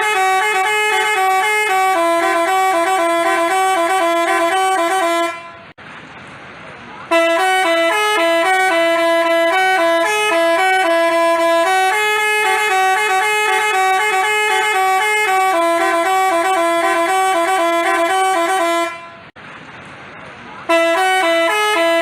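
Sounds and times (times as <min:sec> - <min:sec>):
multi-tone bus horn melody: 0:00.0 - 0:05.8, 0:07.1 - 0:19.4, 0:20.6 - 0:22.0.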